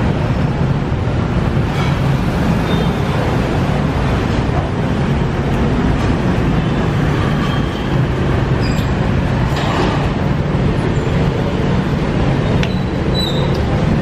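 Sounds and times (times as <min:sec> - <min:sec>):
motorbikes and cars passing: 0:00.0 - 0:14.0.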